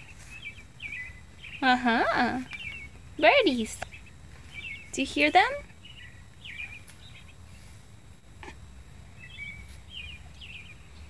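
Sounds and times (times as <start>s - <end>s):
low steady background rumble: 0.0s - 11.0s
wild birds chirping: 0.0s - 11.0s.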